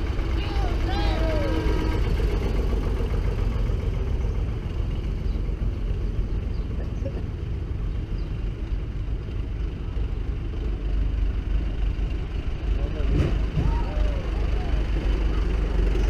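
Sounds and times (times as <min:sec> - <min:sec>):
tractor engines rumbling: 0:00.0 - 0:16.0.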